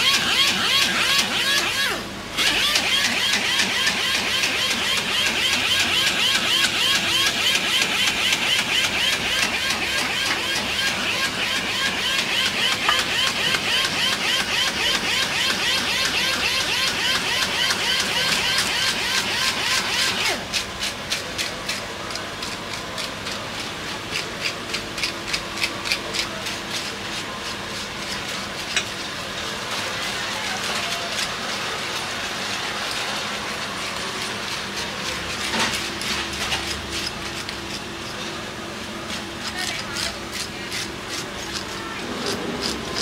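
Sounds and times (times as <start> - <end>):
knife scraping fish fillet: 2.5 - 38.4, 39.0 - 43.0.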